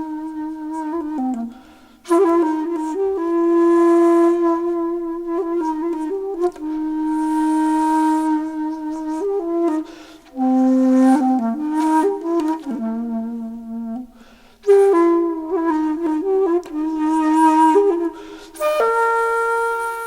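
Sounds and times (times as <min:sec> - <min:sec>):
solo flute melody: 0:00.0 - 0:20.0.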